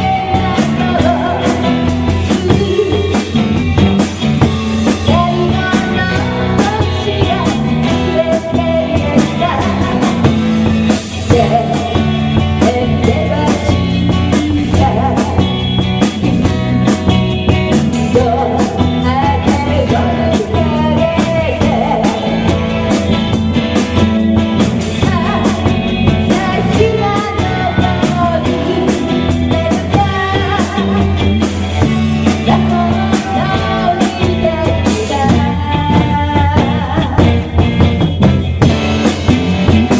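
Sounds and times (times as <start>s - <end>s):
person singing: 0.0s - 3.5s, 4.8s - 17.1s, 17.8s - 22.8s, 24.8s - 37.6s
rock band playing: 0.0s - 39.9s.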